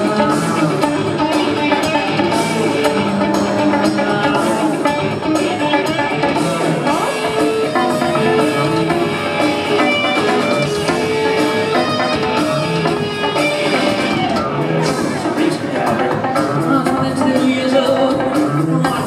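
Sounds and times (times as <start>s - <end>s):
drum kit: 0.0s - 19.0s
electric bass: 0.0s - 19.0s
electric guitar: 0.0s - 19.0s.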